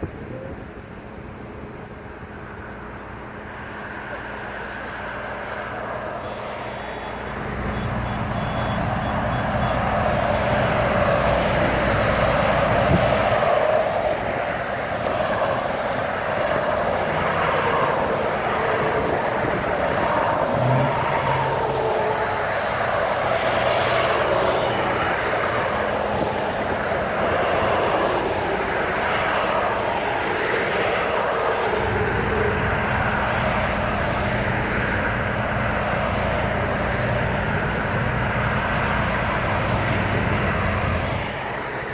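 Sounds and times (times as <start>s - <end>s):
low engine hum: 0.0s - 41.9s
vehicles driving past: 0.0s - 41.9s.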